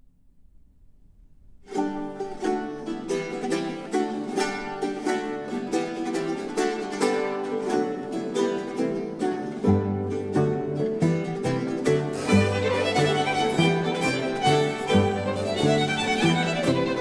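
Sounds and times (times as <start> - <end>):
plucked string tune: 1.5 - 17.0.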